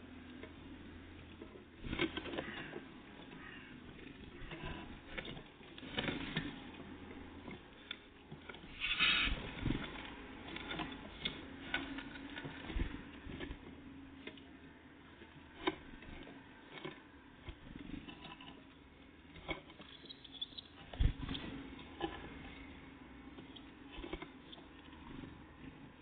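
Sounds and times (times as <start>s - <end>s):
birds pecking at a feeder: 0.0s - 26.0s.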